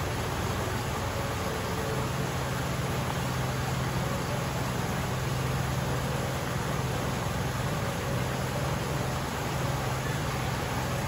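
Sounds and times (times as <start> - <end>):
low water rumble: 0.0 - 11.0
stream water rushing: 0.0 - 11.0.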